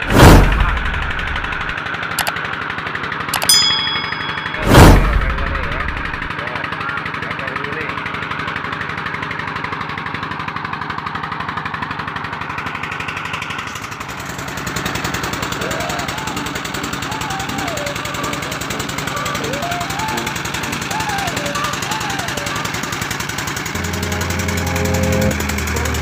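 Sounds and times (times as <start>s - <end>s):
boat diesel engine: 0.0s - 26.0s.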